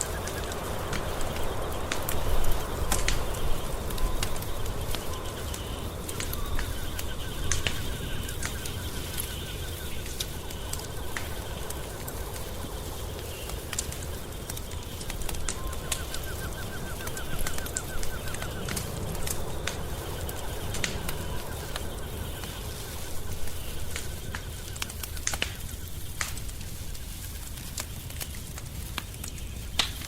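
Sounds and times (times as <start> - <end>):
rapid chirps: 0.0 - 28.4
wood fire crackling: 0.0 - 30.0.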